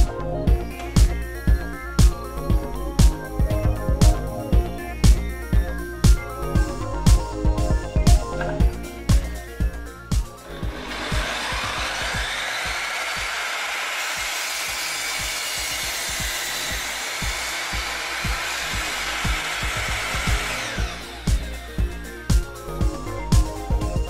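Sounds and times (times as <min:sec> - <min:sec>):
background music with beat: 0:00.0 - 0:13.4, 0:14.2 - 0:24.0
electric saw whining: 0:00.0 - 0:24.0.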